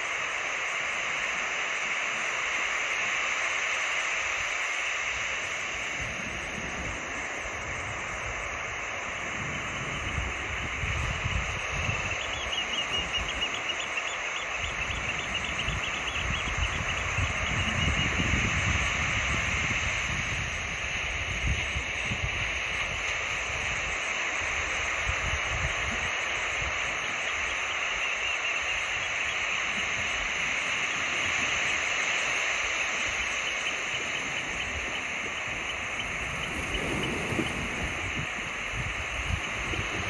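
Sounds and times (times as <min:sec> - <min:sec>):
sea waves washing on shore: 0:00.0 - 0:40.0
wind buffeting microphone: 0:05.3 - 0:40.0.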